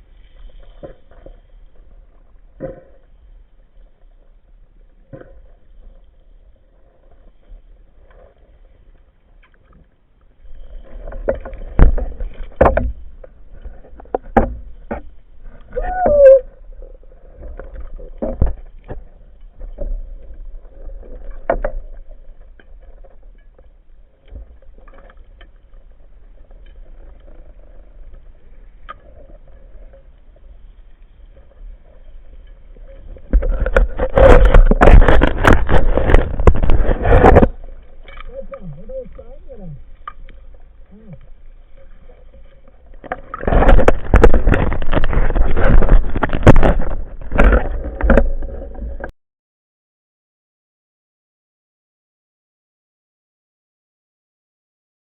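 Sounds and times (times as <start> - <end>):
sharp knocks and clicks underwater: 0.0 - 4.2, 4.8 - 6.2, 7.0 - 49.1
low underwater rumble: 0.0 - 49.1.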